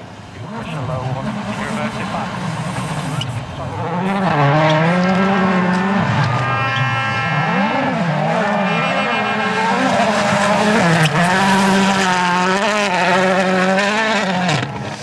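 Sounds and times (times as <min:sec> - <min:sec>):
rally car engine revving: 0:00.3 - 0:15.0.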